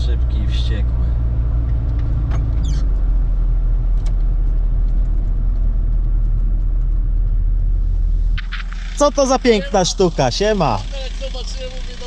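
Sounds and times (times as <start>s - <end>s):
diesel engine drone in cab: 0.0s - 12.0s.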